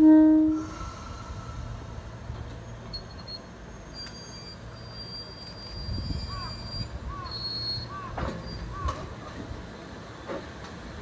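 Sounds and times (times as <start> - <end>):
electric railcar humming: 0.0 - 11.0.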